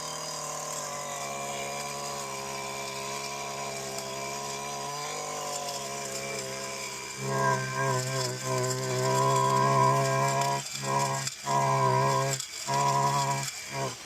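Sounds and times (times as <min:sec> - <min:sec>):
small two-stroke engine running: 0:00.0 - 0:14.0.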